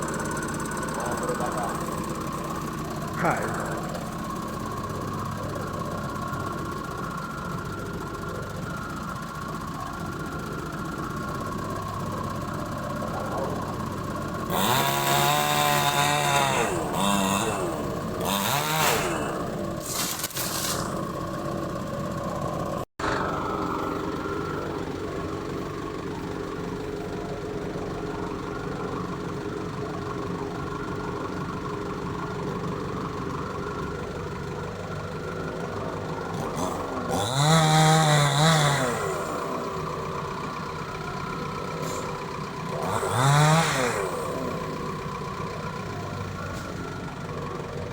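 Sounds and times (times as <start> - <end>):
chainsaw revving: 0.0 - 27.5, 30.2 - 47.9.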